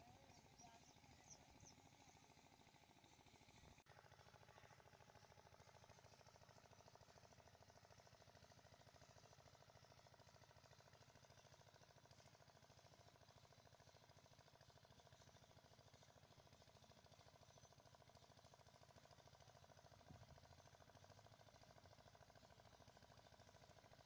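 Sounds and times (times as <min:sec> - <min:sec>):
pulsing mechanical hum: 0:00.0 - 0:24.0.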